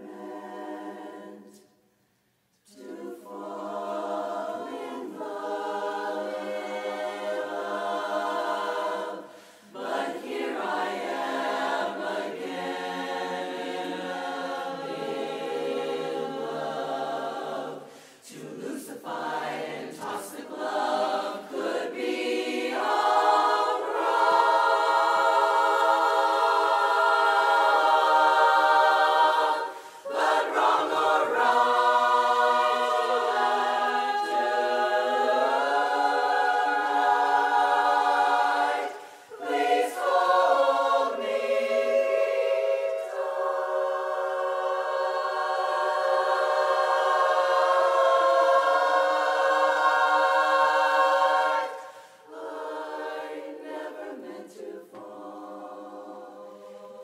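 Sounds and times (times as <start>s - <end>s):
women's chorus singing a cappella: 0.0s - 2.0s, 2.6s - 57.0s.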